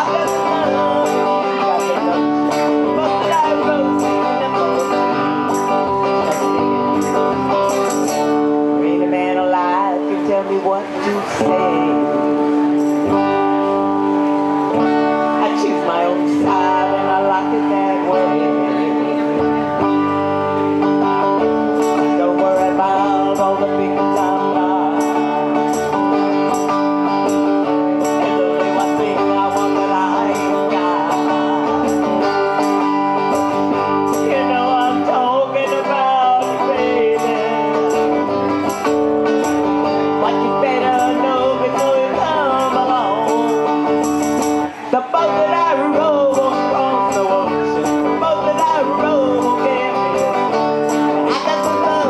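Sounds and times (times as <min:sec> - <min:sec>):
woman singing: 0:00.0 - 0:13.8, 0:14.7 - 0:20.2, 0:20.8 - 0:52.0
electric guitar playing: 0:00.0 - 0:52.0.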